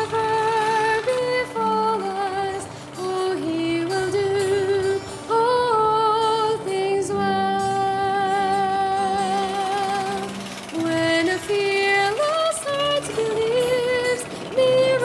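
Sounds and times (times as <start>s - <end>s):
woman singing slow melody: 0.0s - 15.0s.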